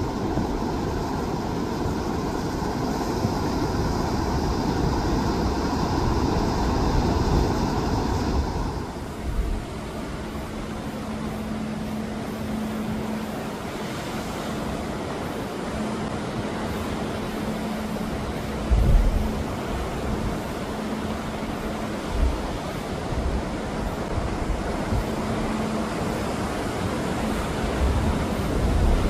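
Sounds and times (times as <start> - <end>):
faint steady hum: 0.0 - 29.0
sea waves washing over rocks: 0.0 - 29.0.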